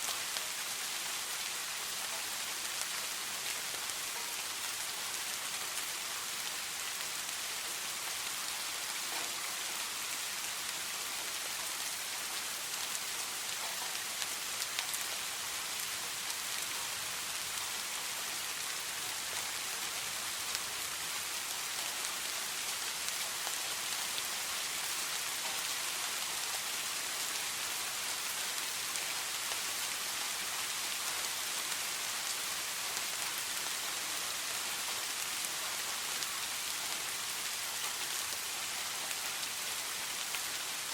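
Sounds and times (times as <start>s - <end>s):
hiss of falling rain: 0.0s - 40.9s.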